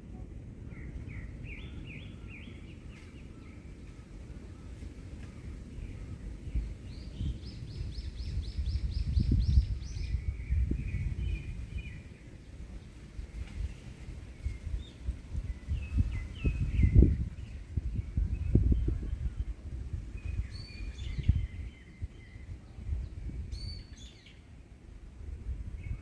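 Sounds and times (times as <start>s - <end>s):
wind on microphone: 0.0s - 26.0s
songbirds singing: 0.3s - 26.0s.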